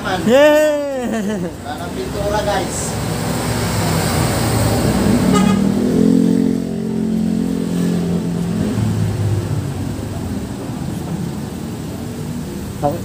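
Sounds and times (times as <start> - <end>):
traffic noise: 0.0 - 13.0
vehicle passing: 0.0 - 13.0.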